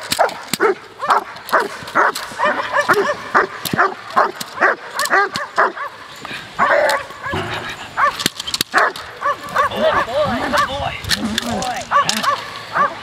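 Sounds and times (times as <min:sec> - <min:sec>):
dog barking rapidly: 0:00.2 - 0:06.0, 0:06.6 - 0:10.8, 0:11.9 - 0:13.0.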